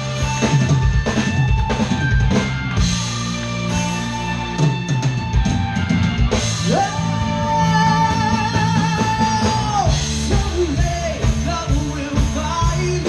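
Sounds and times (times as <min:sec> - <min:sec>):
drum kit beat: 0:00.0 - 0:13.0
live rock band playing: 0:00.0 - 0:13.0
sustained guitar chords: 0:00.0 - 0:13.0.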